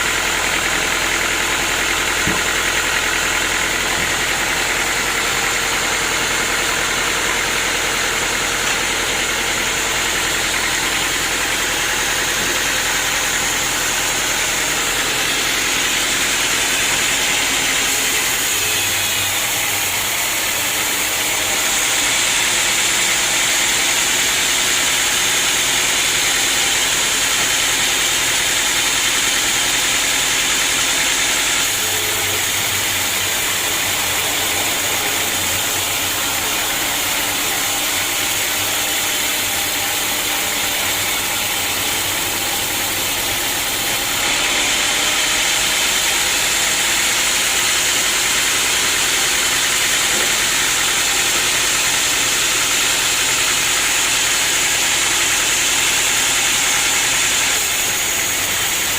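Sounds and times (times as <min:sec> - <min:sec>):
sawmill machinery drone: 0:00.0 - 0:58.9
hissing machine noise: 0:00.8 - 0:58.9.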